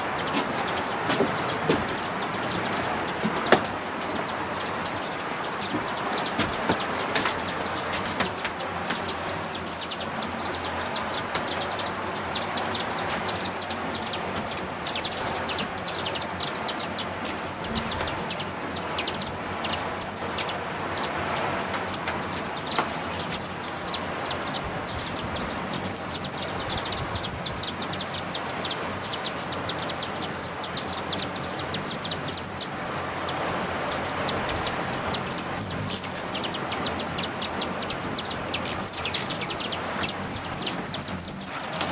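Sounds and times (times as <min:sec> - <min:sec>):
hummingbird chips: 0:00.0 - 0:41.9
hummingbird wings trilling: 0:00.0 - 0:41.9.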